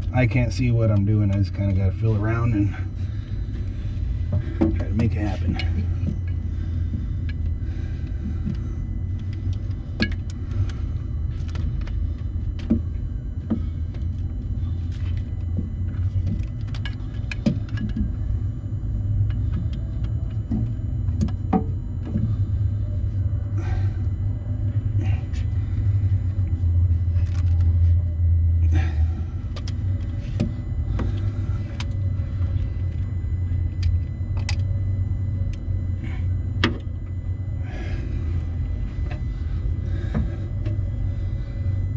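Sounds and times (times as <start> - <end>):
engine rumbling: 0.0 - 41.9.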